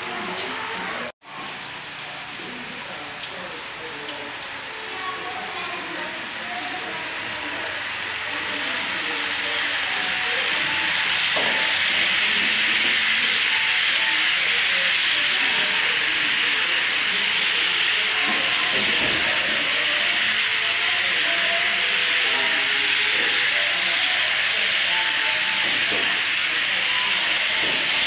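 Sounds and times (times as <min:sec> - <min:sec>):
model train wheels hissing on track: 0:01.7 - 0:28.0.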